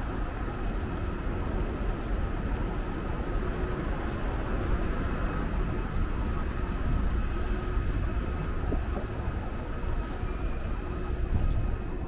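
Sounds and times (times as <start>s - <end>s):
faint steady tones: 0.0s - 12.0s
traffic rumble: 0.0s - 12.0s.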